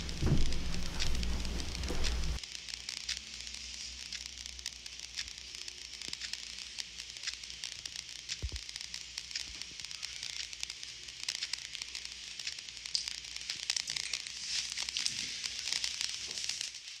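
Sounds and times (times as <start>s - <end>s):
crackling hiss with clicks: 0.0s - 17.0s.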